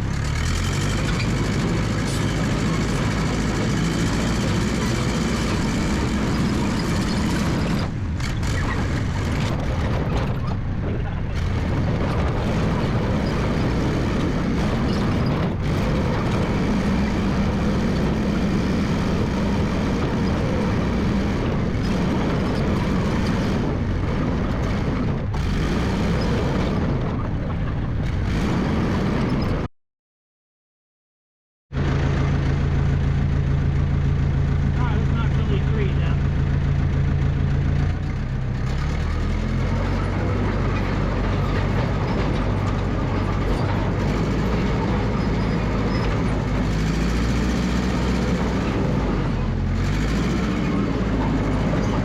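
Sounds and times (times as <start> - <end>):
bulldozer engine running: 0.0 - 29.7, 31.7 - 52.0.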